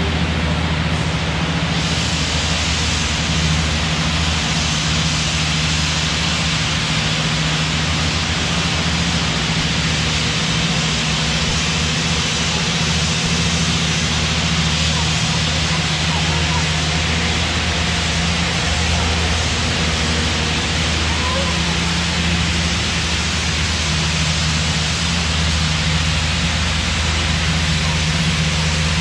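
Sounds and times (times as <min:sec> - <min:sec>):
loud steady hiss: 0:00.0 - 0:29.0
low machine hum: 0:00.0 - 0:29.0.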